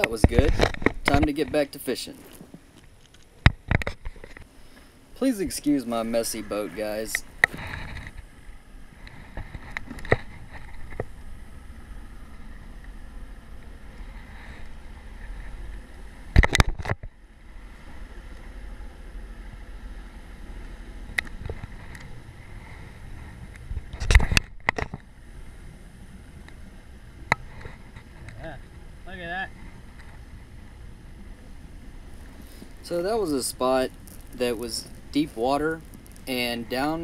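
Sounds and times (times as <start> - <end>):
water and hull noise: 0.0 - 37.0
outboard motor rumbling: 2.2 - 37.0.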